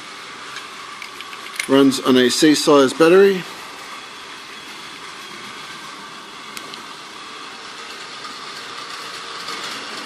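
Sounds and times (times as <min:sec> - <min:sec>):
steady background hiss: 0:00.0 - 0:09.5.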